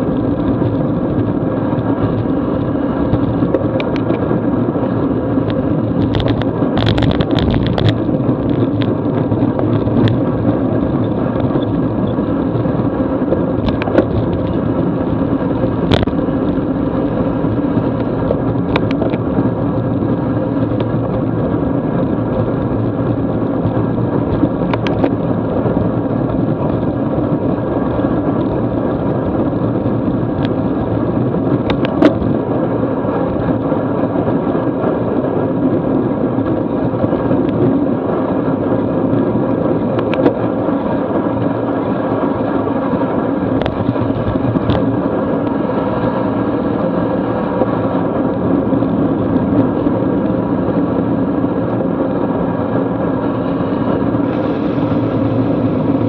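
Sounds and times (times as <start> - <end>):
tyres on wet road: 0.0 - 56.0
wind rushing: 0.0 - 56.0.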